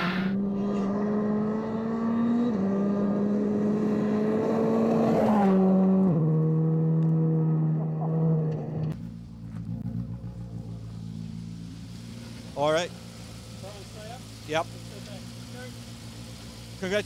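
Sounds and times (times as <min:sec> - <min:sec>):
gravel and tyre noise: 0:00.0 - 0:17.0.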